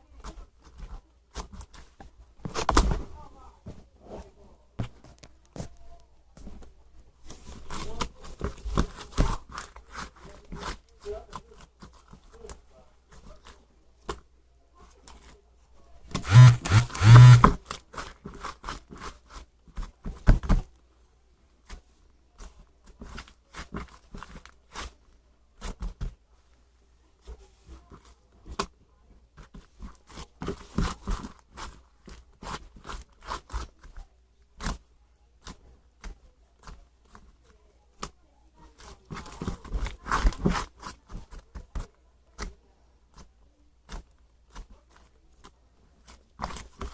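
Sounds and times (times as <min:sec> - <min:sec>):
rustling and scraping: 0:00.0 - 0:14.2, 0:16.0 - 0:20.8, 0:21.6 - 0:46.9.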